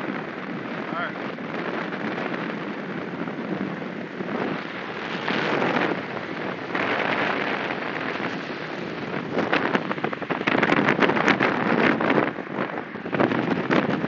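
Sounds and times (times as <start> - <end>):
wind rushing through window: 0.0 - 14.0.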